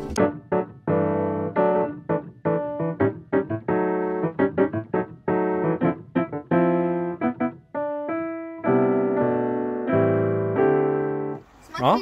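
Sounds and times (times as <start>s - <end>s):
piano music: 0.0s - 11.9s.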